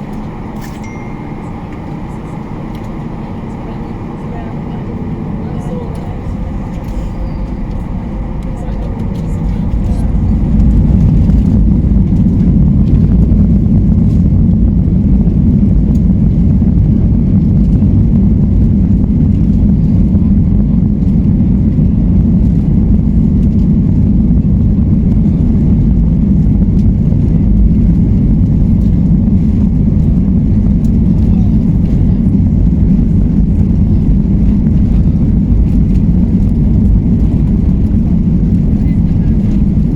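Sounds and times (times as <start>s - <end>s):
jet engines rumbling inside cabin: 0.0s - 39.9s.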